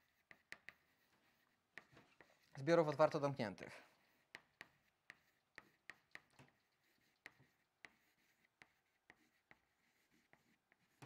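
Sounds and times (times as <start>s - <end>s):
chalk tapping and scratching: 0.0s - 3.3s, 3.9s - 11.0s.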